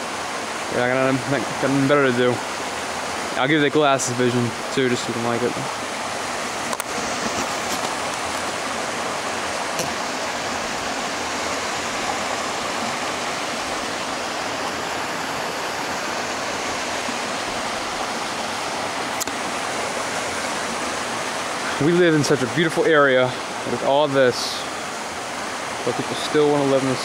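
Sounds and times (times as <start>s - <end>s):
creek water rushing over ledge: 0.0s - 27.0s.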